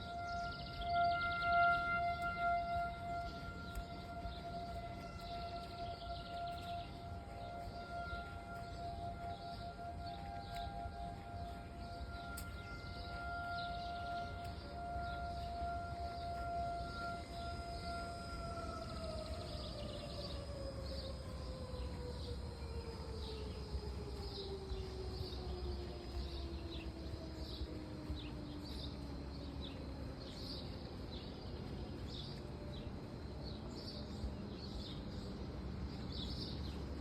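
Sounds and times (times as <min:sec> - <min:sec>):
birds chirping: 0:00.0 - 0:37.0
warning siren winding down: 0:00.0 - 0:37.0.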